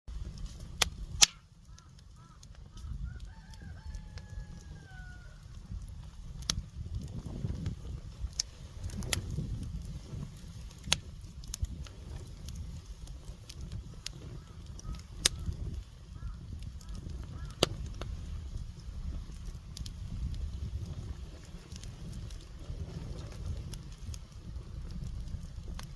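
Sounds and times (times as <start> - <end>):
fire crackling and popping: 0.1 - 25.9
fire low rumble: 0.1 - 25.9.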